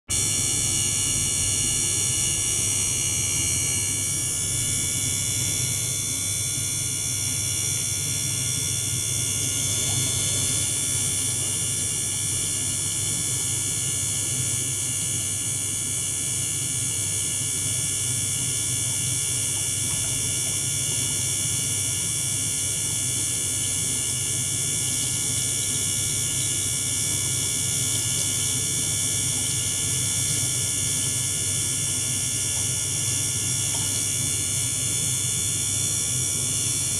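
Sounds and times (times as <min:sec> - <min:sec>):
electric pump humming: 0:00.1 - 0:36.9.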